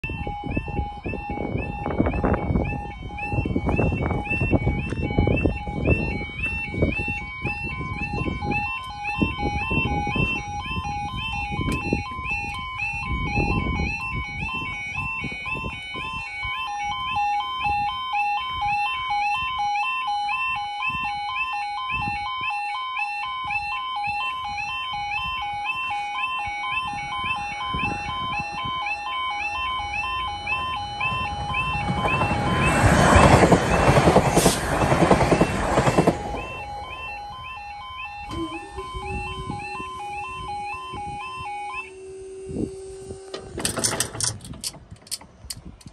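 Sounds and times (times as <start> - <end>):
wind noise rumble: 0.0 - 19.6, 20.5 - 22.5, 26.4 - 45.9
two-tone warning alarm: 0.0 - 45.8.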